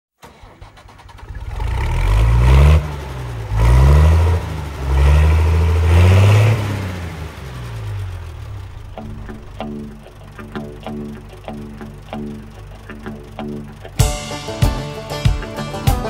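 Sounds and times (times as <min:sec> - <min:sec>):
engine starting and revving: 0:00.2 - 0:14.0.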